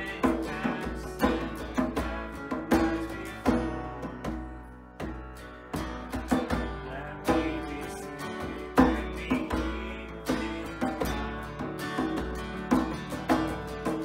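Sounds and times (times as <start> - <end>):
drum beat: 0.0 - 14.0
guitar: 0.0 - 14.0.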